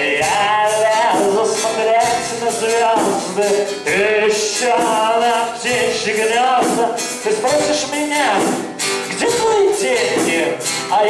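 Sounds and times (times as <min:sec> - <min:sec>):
man singing into a microphone: 0:00.0 - 0:11.0
strummed acoustic guitar: 0:00.0 - 0:11.0.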